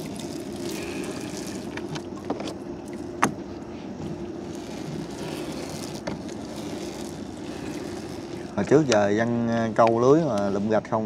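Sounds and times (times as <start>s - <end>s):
motor running steadily: 0.0s - 11.0s.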